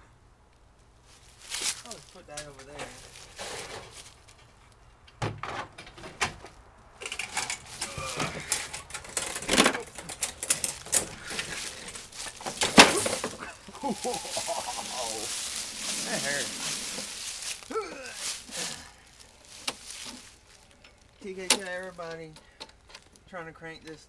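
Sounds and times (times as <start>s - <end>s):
lawnmower rattling and scraping: 1.1s - 4.8s, 5.4s - 24.0s.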